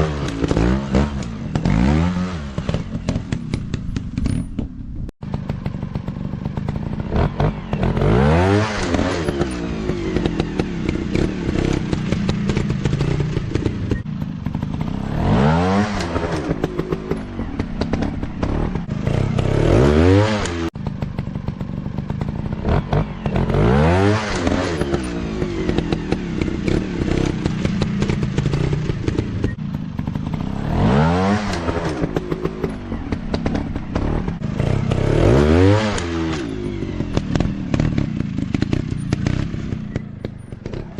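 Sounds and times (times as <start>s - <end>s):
clatter: 0.0s - 40.9s
dirt bike engines revving: 5.3s - 40.9s.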